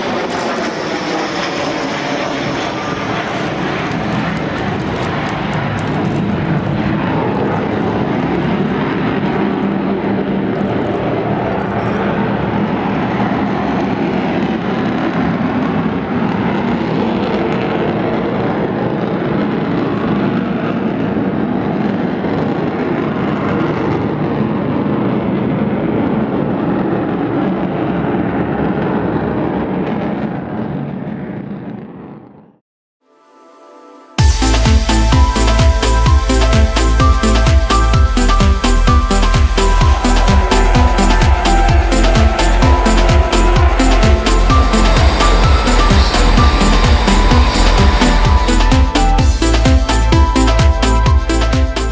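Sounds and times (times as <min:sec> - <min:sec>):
jet engines in flight: 0:00.0 - 0:32.6, 0:34.2 - 0:51.9.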